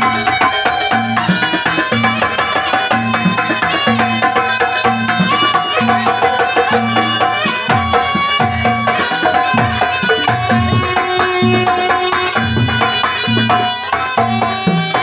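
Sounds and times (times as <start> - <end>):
hand drum pattern: 0.0 - 15.0.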